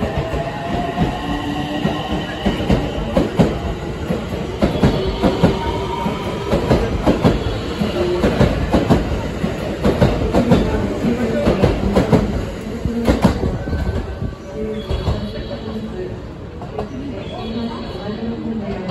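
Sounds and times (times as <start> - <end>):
train rumbling past: 0.0 - 18.9.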